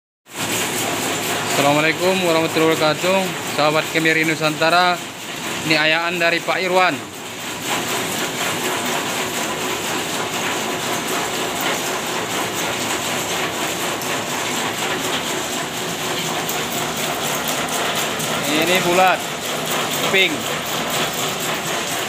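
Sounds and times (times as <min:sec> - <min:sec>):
nut cracking machine running: 0:00.3 - 0:22.0.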